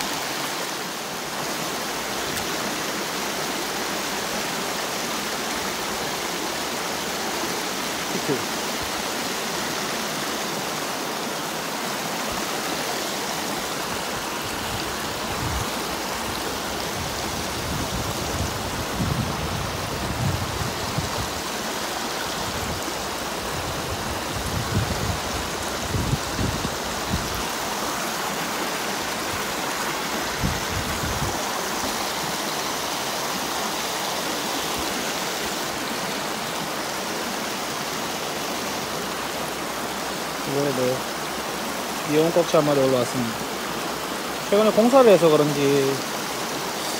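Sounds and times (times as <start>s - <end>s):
stream running over rocks: 0.0s - 46.9s.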